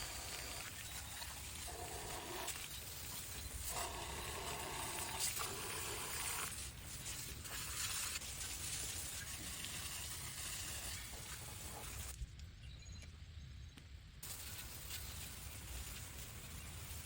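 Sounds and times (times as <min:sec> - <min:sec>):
water spraying onto engine block: 0:00.0 - 0:12.1, 0:14.2 - 0:17.0.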